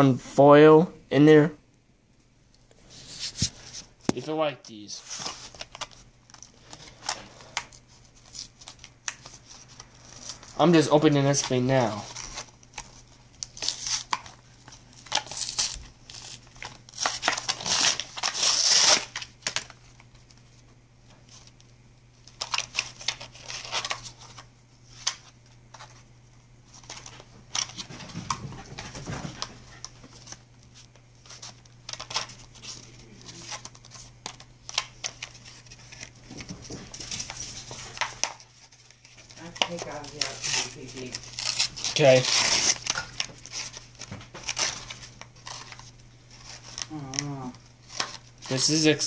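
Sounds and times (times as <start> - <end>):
steady low hum: 0.0 - 49.0
plastic wrapper tearing and crinkling: 5.0 - 20.4, 22.2 - 26.0, 26.7 - 27.8, 29.8 - 49.0.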